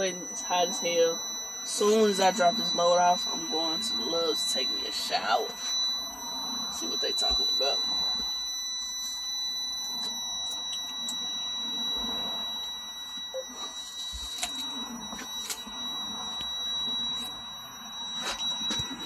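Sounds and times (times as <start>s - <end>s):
high-pitched electronic tone: 0.0s - 19.0s.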